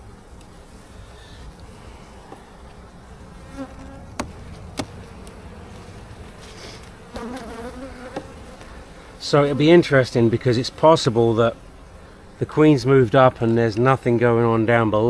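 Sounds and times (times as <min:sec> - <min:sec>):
honeybees buzzing: 0:00.0 - 0:14.8.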